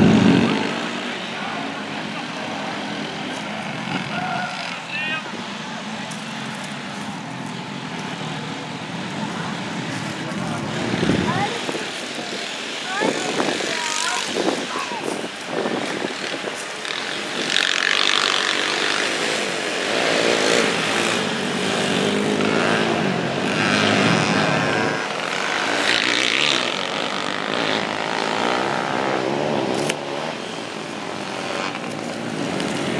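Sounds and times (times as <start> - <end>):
small engines revving: 0.0 - 32.9.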